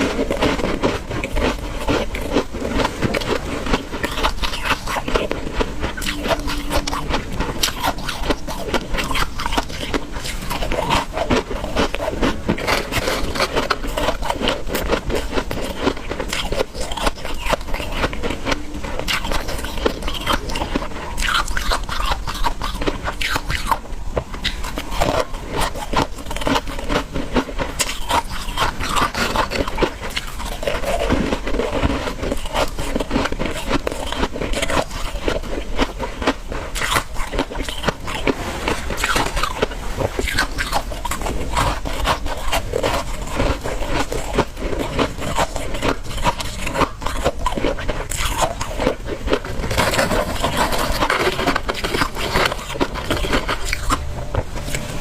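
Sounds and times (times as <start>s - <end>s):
chewing ice crunching: 0.0s - 55.0s.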